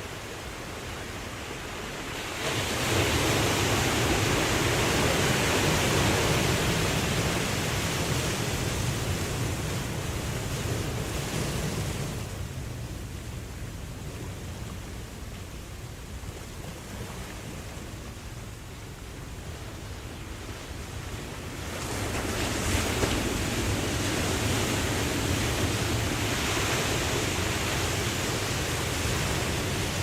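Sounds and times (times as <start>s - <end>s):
ocean waves washing on shore: 0.0s - 30.0s.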